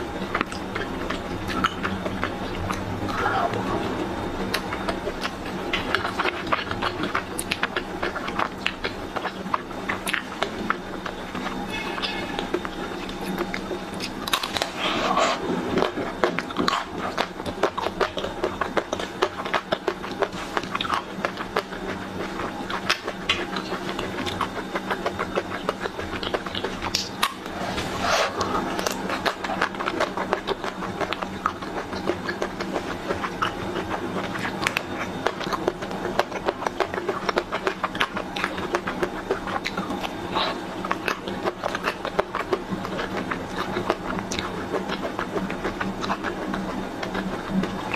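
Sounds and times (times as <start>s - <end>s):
biting and crunching ice cream bar: 0.0s - 27.6s, 28.3s - 47.9s
chewing and mouth sounds: 0.0s - 47.9s
steady low hum: 0.0s - 47.9s.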